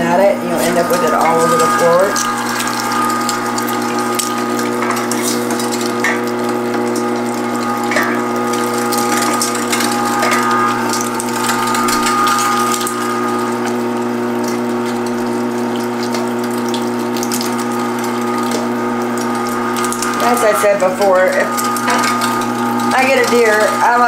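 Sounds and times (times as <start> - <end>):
meat grinder motor hum: 0.0 - 24.0
crackling clicks of meat grinding: 0.9 - 24.0.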